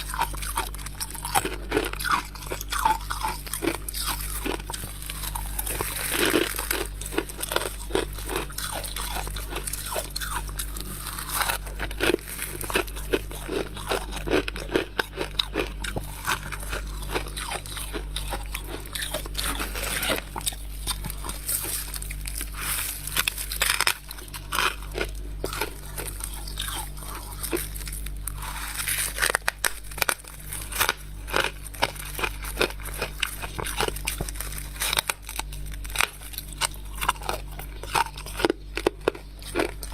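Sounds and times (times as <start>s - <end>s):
crunching of chewing frost: 0.0s - 39.9s.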